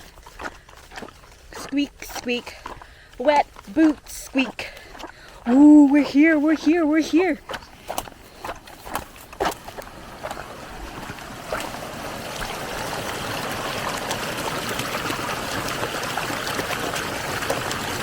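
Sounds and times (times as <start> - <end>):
water draining in a stream: 0.0 - 18.0.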